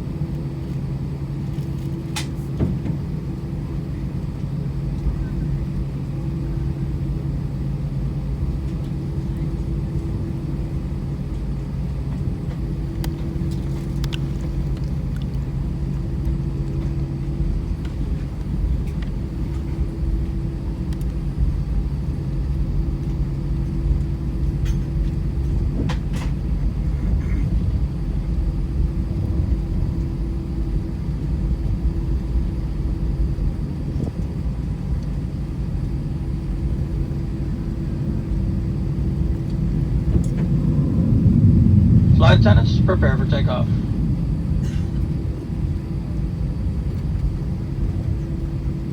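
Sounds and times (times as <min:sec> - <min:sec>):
aircraft cabin rumble: 0:00.0 - 0:48.9
engine hum: 0:04.2 - 0:48.9.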